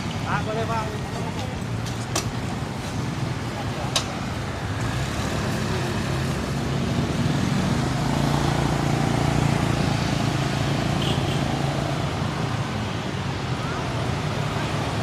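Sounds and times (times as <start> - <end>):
roadside traffic: 0.0 - 15.0.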